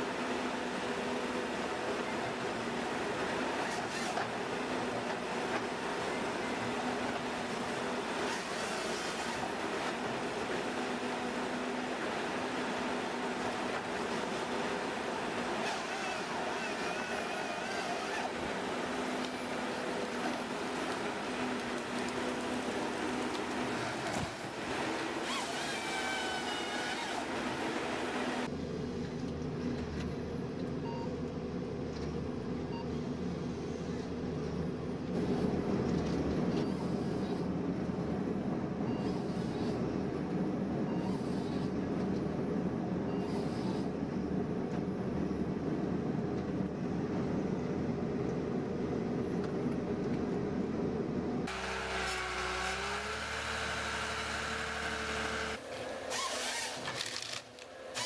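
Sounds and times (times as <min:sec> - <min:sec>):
machinery engine drone: 0:00.0 - 0:58.0.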